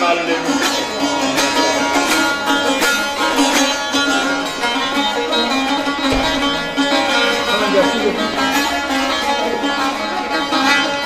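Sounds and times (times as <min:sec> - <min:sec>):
plucked lutes playing: 0:00.0 - 0:11.0.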